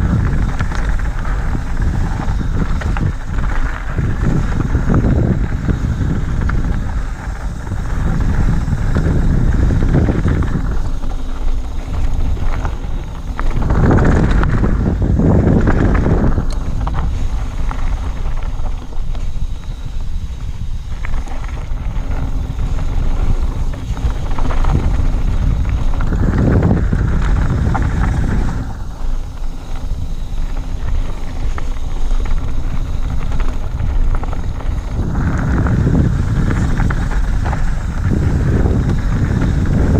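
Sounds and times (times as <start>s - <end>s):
bike tyres rolling over gravel: 0.0s - 39.9s
wind noise on microphone: 0.0s - 39.9s.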